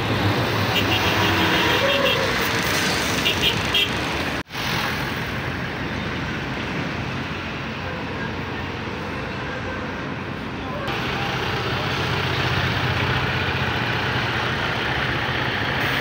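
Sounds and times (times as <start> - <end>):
road traffic: 0.0 - 16.0
truck engine: 0.0 - 16.0.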